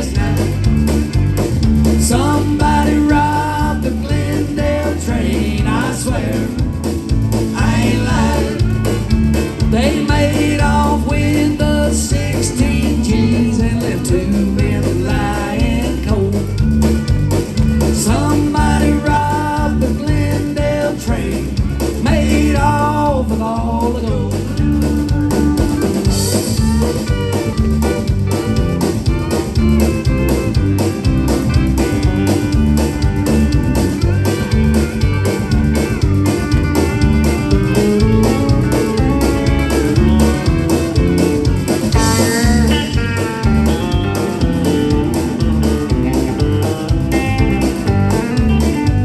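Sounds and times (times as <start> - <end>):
bass guitar: 0.0 - 49.0
lead guitar: 0.0 - 49.0
steady drum beat: 0.0 - 49.0.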